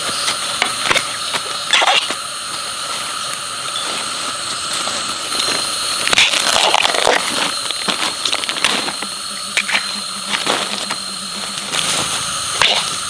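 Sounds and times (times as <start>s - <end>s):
high-pitched drone: 0.0s - 13.0s.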